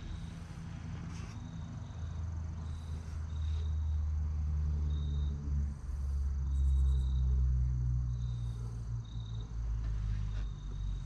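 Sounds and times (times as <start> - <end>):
insect trill: 0.0 - 11.0
insects chirping: 0.0 - 11.0
steady low rumble: 0.0 - 11.0.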